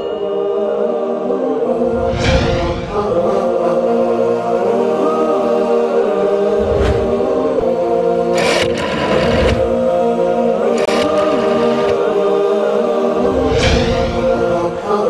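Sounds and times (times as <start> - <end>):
theme music with chant-like voices: 0.0 - 15.0.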